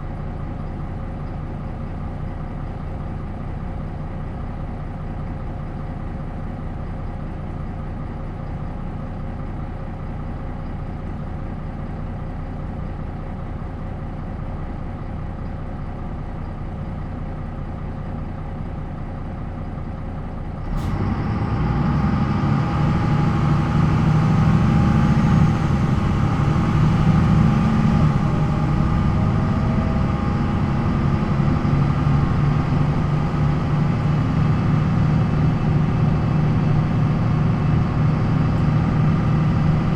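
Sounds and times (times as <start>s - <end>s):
diesel bus engine: 0.0s - 39.9s.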